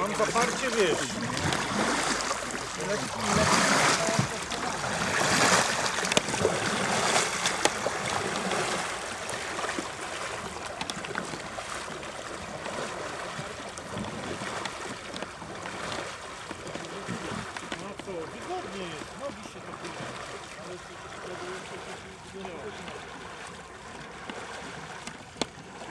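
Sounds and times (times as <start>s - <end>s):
small knocks on hull: 0.0s - 12.7s, 13.3s - 19.4s, 22.8s - 25.9s
water lapping against canoe: 0.0s - 25.9s.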